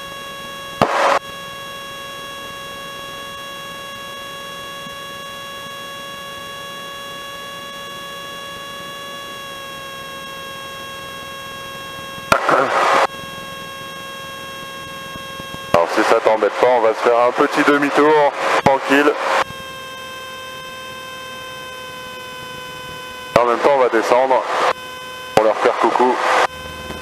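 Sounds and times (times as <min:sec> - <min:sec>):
aircraft engine and propeller drone: 0:00.0 - 0:27.0.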